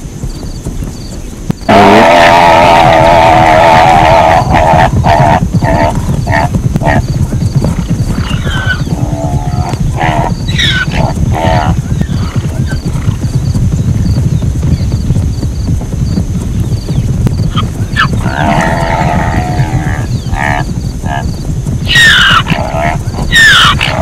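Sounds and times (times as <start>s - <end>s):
steady low rumble: 0.0s - 24.0s
zebras calling: 0.8s - 15.0s, 16.5s - 24.0s.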